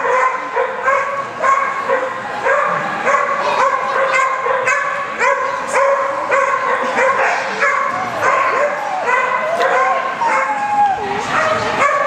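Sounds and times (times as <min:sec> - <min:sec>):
dog barking in high yips: 0:00.0 - 0:12.0.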